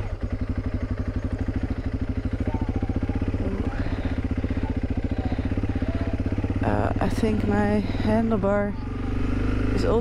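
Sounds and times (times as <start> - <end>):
motorcycle engine running slowly: 0.0 - 10.0.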